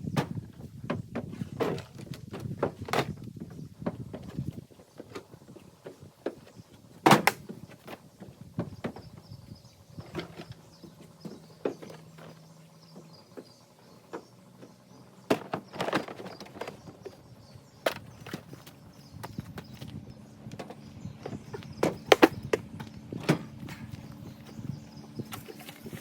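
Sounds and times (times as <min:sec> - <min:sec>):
knocks and clunks of gear: 0:00.0 - 0:26.0.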